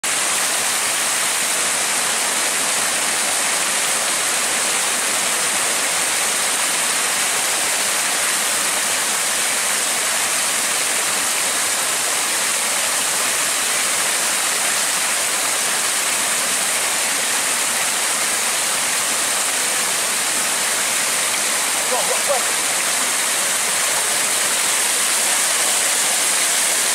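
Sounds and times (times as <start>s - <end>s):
river water rushing: 0.0s - 26.9s.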